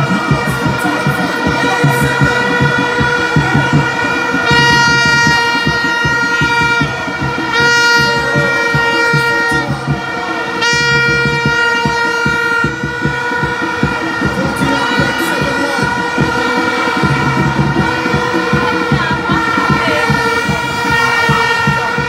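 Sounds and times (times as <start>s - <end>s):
crowd noise: 0.0s - 22.0s
rhythmic low beat: 0.0s - 22.0s
stadium horns blowing: 0.0s - 22.0s.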